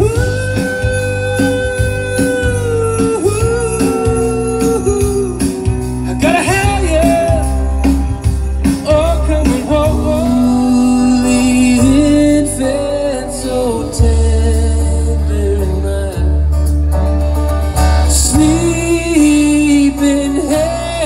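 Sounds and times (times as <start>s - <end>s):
person singing: 0.0s - 16.8s, 18.0s - 21.0s
bass line: 0.0s - 21.0s
live band playing: 0.0s - 21.0s.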